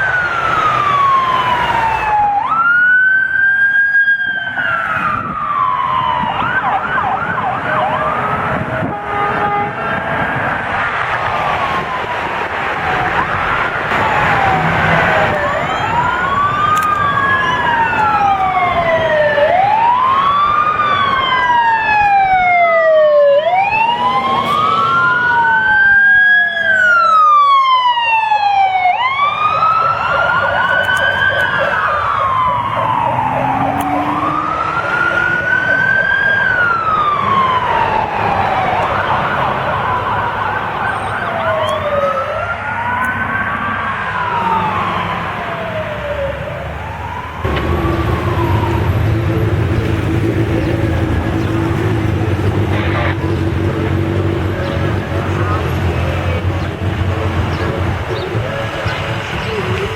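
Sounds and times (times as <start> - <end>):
emergency vehicle siren wailing: 0.0 - 59.9
second siren wailing: 0.0 - 59.9.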